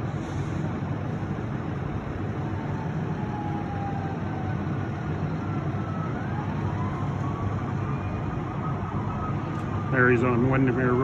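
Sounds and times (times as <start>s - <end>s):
diesel engines rumbling: 0.0s - 11.0s
distant siren wailing: 1.1s - 11.0s.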